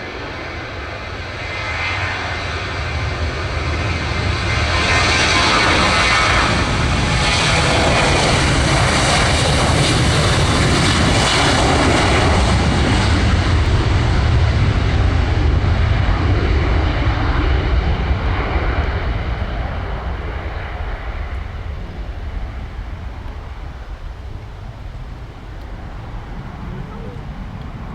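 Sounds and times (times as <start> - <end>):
jet engines roaring at takeoff: 0.0 - 27.9.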